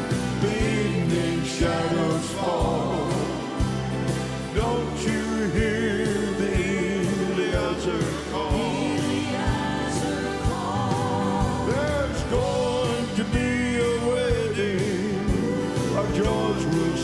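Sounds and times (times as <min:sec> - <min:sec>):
bass: 0:00.0 - 0:17.0
drums keeping steady beat: 0:00.0 - 0:17.0
man singing gospel with vibrato: 0:00.0 - 0:17.0
piano: 0:00.0 - 0:17.0.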